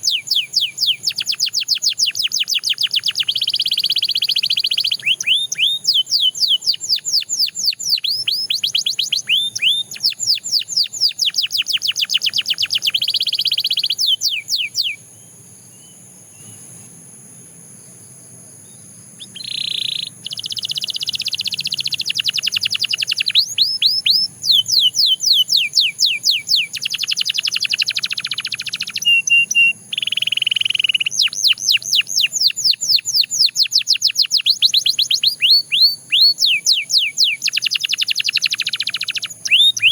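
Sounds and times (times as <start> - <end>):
canary singing: 0.0 - 16.9, 18.8 - 39.9.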